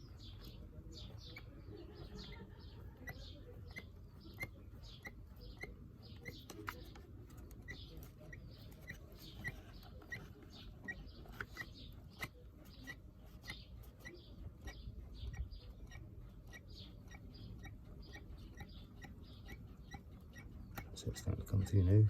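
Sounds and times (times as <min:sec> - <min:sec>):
rubber primer bulb squeaking: 0:00.0 - 0:22.0.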